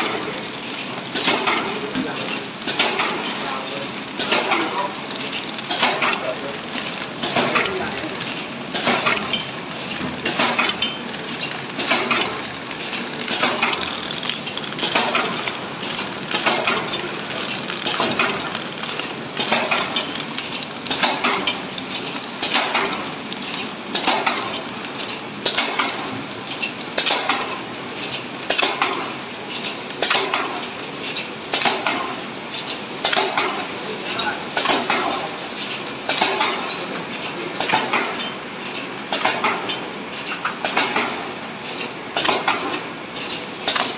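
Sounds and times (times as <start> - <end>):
packing machine metallic clatter: 0.0 - 43.9
steady machine noise: 0.0 - 43.9.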